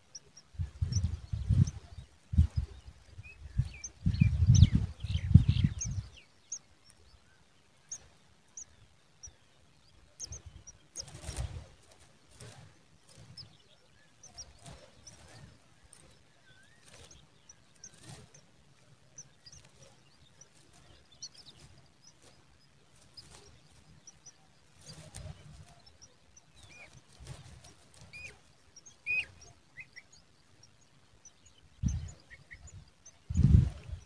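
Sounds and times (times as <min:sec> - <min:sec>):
bird chirps and twitters: 0:00.1 - 0:06.6, 0:07.9 - 0:34.0.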